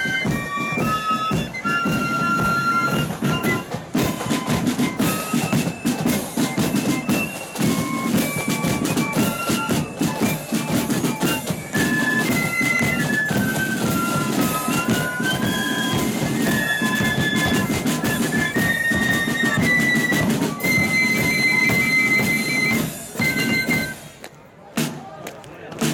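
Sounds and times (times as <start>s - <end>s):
flutes playing in unison: 0.0s - 24.2s
drums beating: 0.0s - 25.9s.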